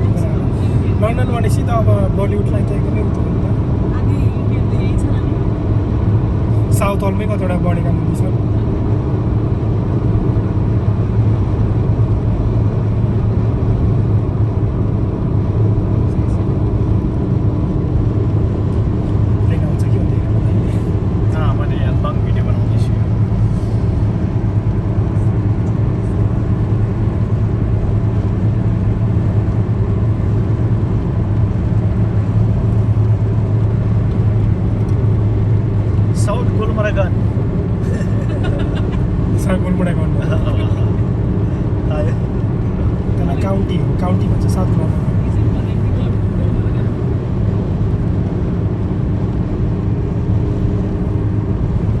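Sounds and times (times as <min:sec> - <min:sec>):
vehicle engine and road noise: 0:00.0 - 0:52.0.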